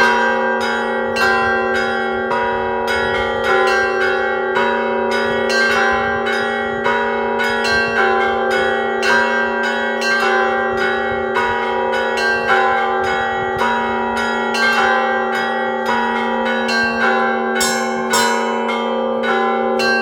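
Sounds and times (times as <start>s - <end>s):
large low bell hum: 0.0s - 20.0s
small bells ringing: 0.0s - 20.0s.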